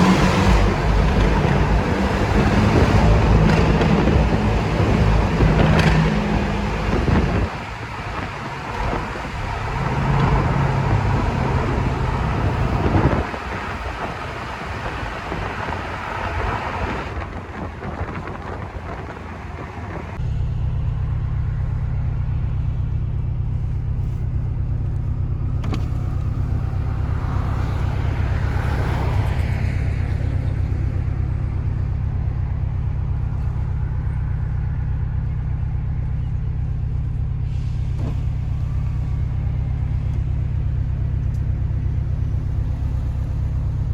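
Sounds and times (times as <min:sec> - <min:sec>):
low engine rumble: 0:00.0 - 0:43.9
tyre and road noise: 0:00.0 - 0:43.9.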